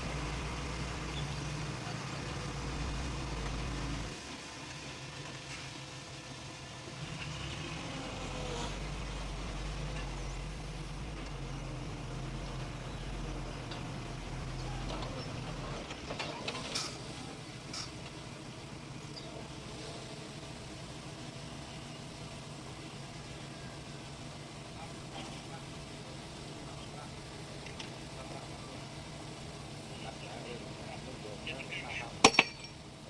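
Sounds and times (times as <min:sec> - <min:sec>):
diesel machinery engine drone: 0:00.0 - 0:33.0.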